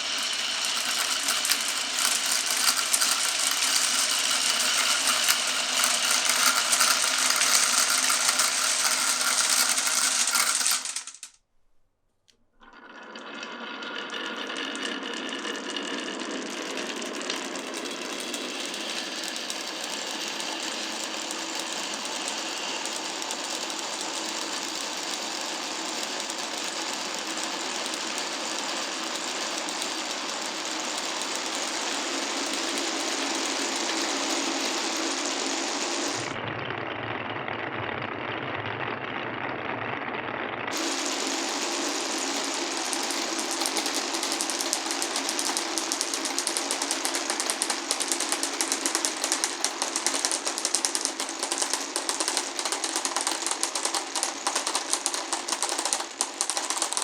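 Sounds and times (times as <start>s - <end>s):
marbles rolling and clattering: 0.0s - 11.4s, 12.6s - 36.4s, 40.7s - 57.0s.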